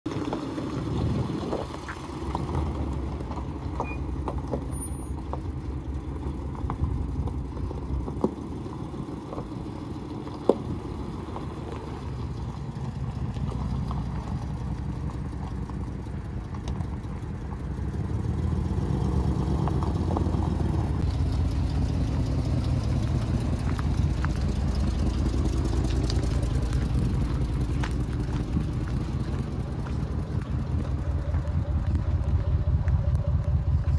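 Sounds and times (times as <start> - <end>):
pickup engine idling: 0.1 - 18.5, 19.6 - 33.9.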